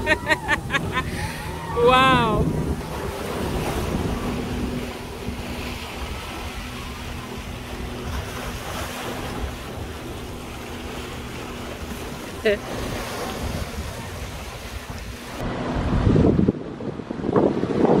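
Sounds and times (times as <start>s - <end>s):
sea waves washing: 0.0s - 18.0s
speedboat engine droning: 0.0s - 18.0s
wind buffeting microphone: 0.0s - 18.0s.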